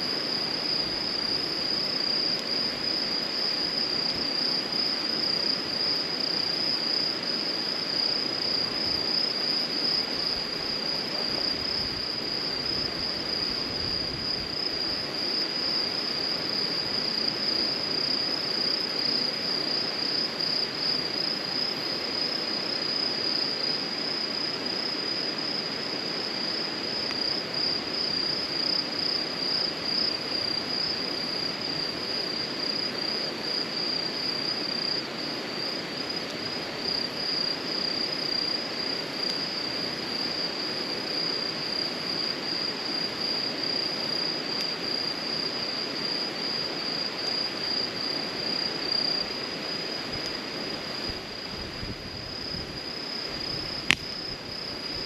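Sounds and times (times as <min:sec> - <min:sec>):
insects trilling: 0:00.0 - 0:55.0.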